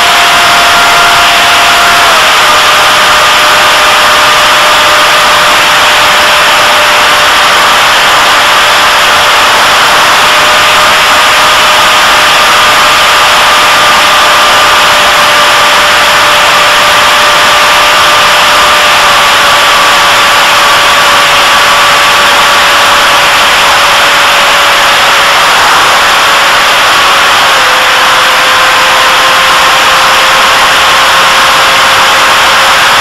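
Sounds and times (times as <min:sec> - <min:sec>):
model plane motor whining: 0:00.0 - 0:33.0.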